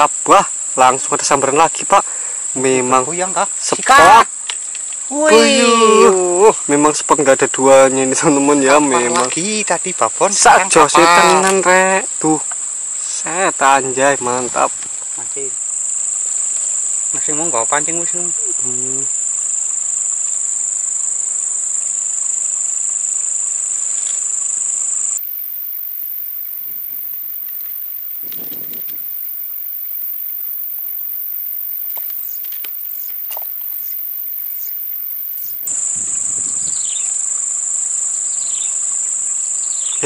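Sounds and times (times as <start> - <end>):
insects shrilling drone: 0.0 - 40.0.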